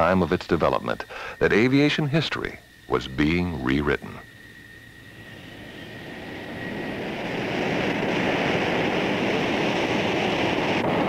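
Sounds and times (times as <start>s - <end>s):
jet engines rushing: 0.0s - 11.0s
thin high whine: 0.0s - 11.0s.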